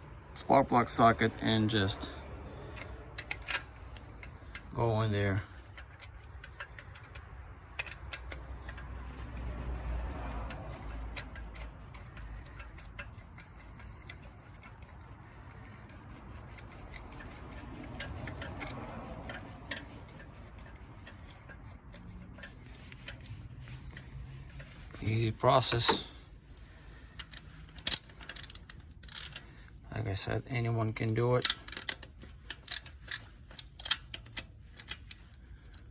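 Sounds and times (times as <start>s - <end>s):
ratchet wrench clicking: 2.6s - 24.9s, 27.2s - 29.5s, 31.1s - 35.9s.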